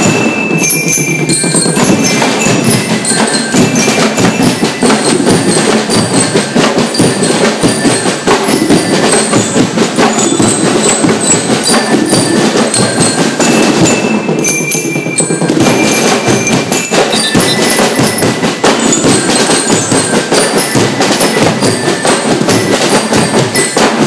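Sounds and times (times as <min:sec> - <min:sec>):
bell lyres ringing a tune: 0:00.0 - 0:24.0
marching drums beat: 0:00.0 - 0:24.0.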